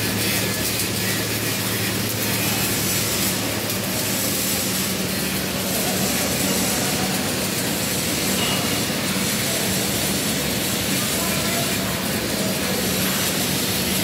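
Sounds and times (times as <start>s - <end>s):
welding arc crackling and hissing: 0.0s - 14.0s.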